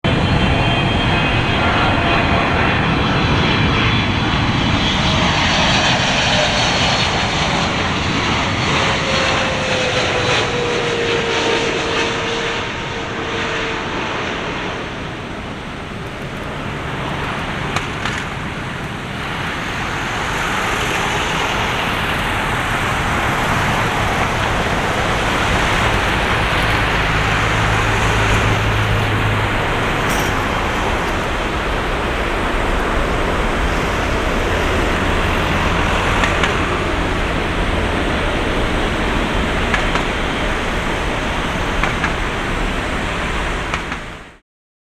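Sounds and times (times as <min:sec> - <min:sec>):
jet engine noise with whine: 0:00.0 - 0:44.4.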